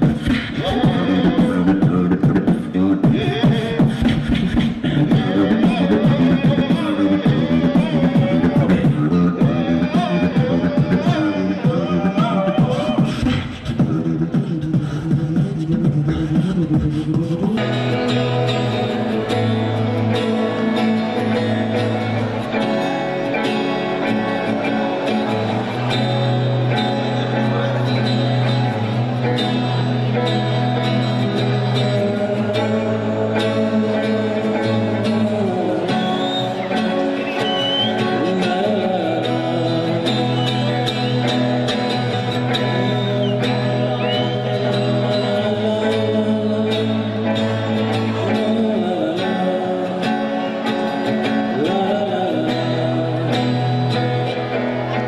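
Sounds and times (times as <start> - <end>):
guitar: 0.0 - 55.0
person singing: 0.0 - 55.0.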